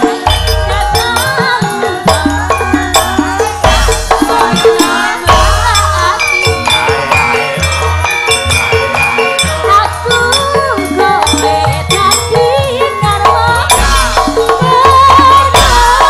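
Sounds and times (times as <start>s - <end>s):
person singing: 0.0s - 7.4s, 9.6s - 16.0s
metallophone tones: 0.0s - 16.0s.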